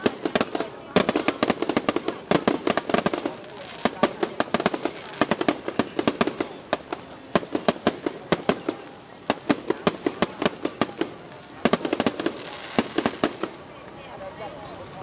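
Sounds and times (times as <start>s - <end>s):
fireworks bangs and cracks: 0.0s - 14.0s.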